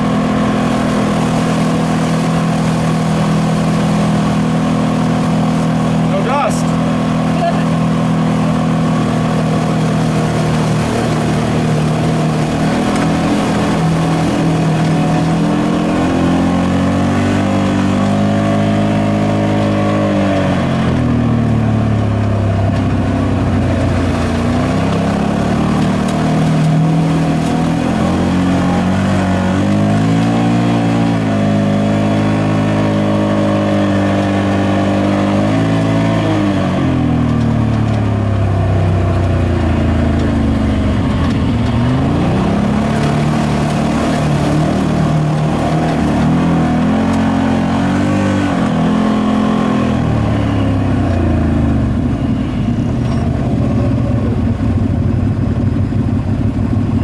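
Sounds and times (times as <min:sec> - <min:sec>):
utility vehicle engine revving: 0:00.0 - 0:57.0
wheels splashing through water: 0:00.0 - 0:57.0.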